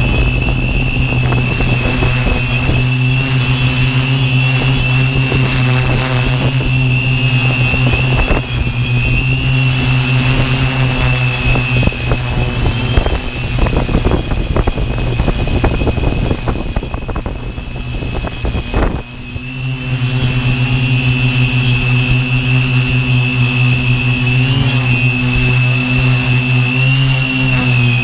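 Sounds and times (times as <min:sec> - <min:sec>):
drone motors and propellers whining: 0:00.0 - 0:28.0
wind buffeting microphone: 0:00.0 - 0:28.0.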